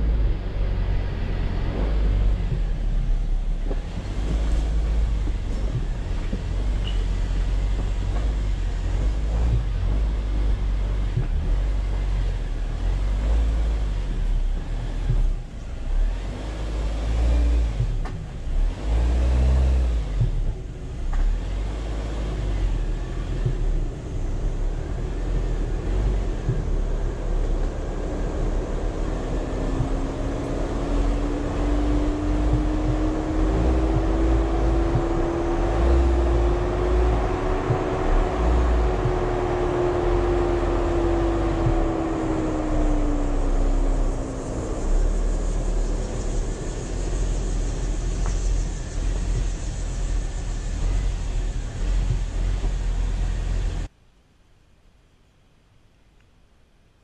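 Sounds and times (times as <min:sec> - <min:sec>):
car engine running: 0:00.0 - 0:53.9
low rumble: 0:00.0 - 0:54.0.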